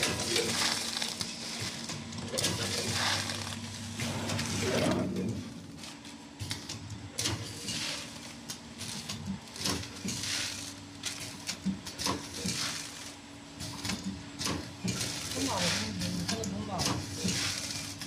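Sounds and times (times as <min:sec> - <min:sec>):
machine steady hum: 0:00.0 - 0:18.0
packaging machine hissing: 0:00.0 - 0:18.0.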